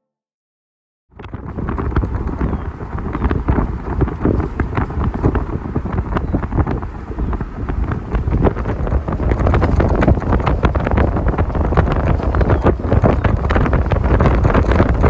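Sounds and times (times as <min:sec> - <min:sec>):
low rumble of road noise: 0:01.1 - 0:15.0
wind buffeting microphone: 0:01.1 - 0:15.0.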